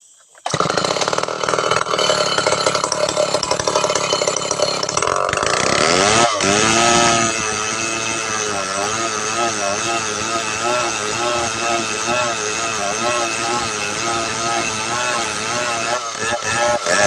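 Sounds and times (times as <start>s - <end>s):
chainsaw running at high revs: 0.5s - 17.0s.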